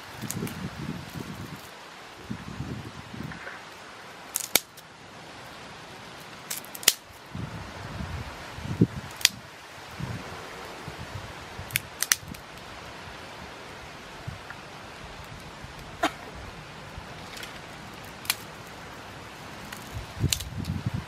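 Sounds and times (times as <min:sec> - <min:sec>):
rustling of sticks: 0:00.0 - 0:07.4, 0:08.3 - 0:21.0
wood fire crackling: 0:00.0 - 0:21.0.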